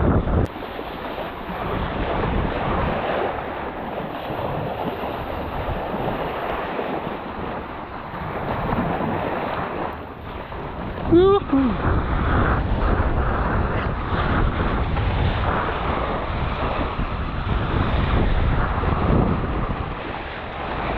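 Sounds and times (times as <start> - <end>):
rushing water and surf: 0.0 - 20.9
wind buffeting microphone: 0.0 - 20.9.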